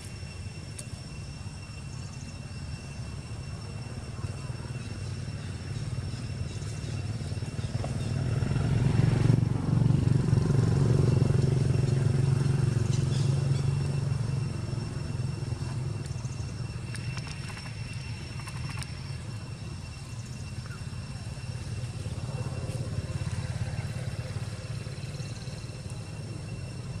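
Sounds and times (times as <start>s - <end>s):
thin steady high tone: 0.0s - 8.5s, 11.2s - 27.0s
passing vehicle engine hum: 3.9s - 27.0s.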